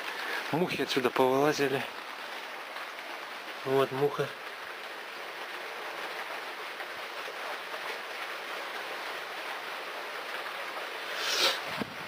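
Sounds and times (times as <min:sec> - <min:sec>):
rain hissing: 0:00.0 - 0:12.0.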